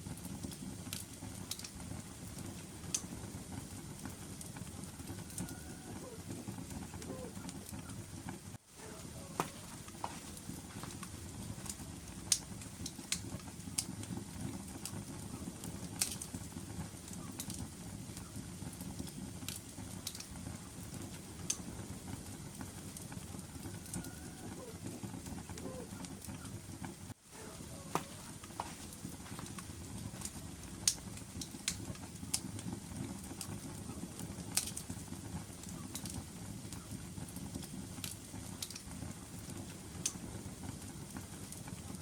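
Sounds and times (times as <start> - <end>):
logs crackling and popping: 0.0 - 42.0
low rush of flame: 0.0 - 42.0.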